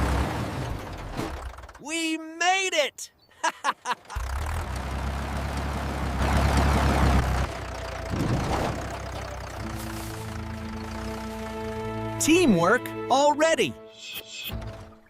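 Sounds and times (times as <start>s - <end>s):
tractor engine rumbling: 0.0s - 2.8s, 3.6s - 15.0s.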